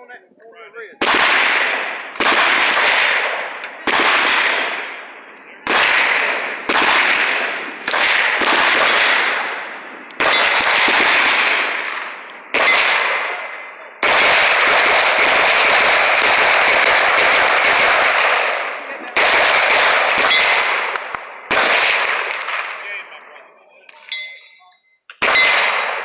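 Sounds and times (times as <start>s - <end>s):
rapid gunfire: 1.0s - 22.9s, 25.2s - 26.0s
gunshots with echo: 1.0s - 23.2s, 25.2s - 26.0s.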